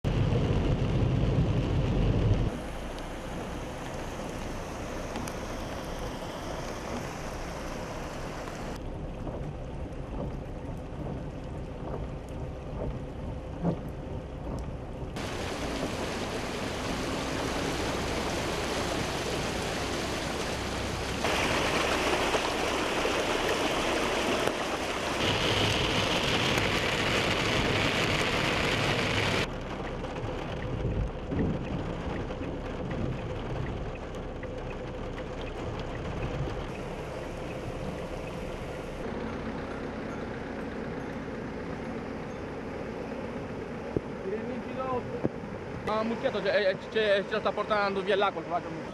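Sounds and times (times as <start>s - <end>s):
heavy rain: 0.0s - 48.9s
fast-flowing floodwater: 2.5s - 12.4s, 15.2s - 39.8s, 41.8s - 48.9s.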